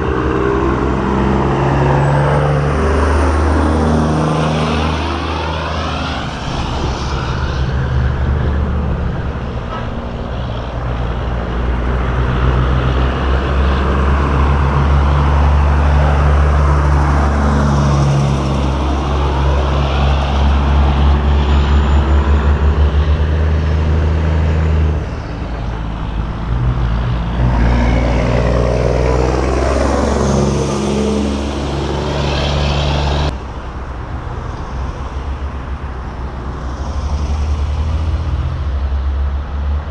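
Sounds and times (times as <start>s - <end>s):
diesel trucks driving past: 0.0s - 39.9s.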